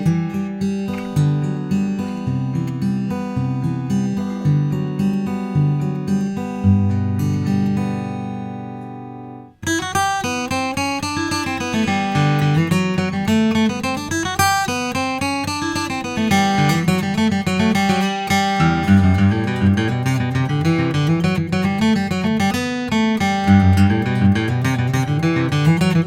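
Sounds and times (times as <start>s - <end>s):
acoustic guitar picking: 0.0s - 26.0s.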